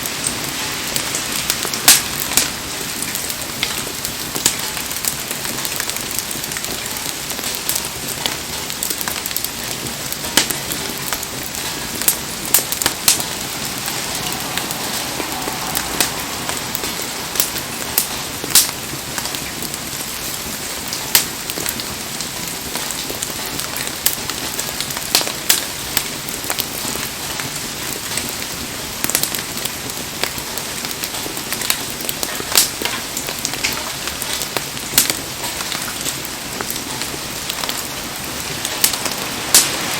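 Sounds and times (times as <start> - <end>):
bonfire popping and crackling: 0.0 - 39.9
heavy rain falling: 0.0 - 39.9.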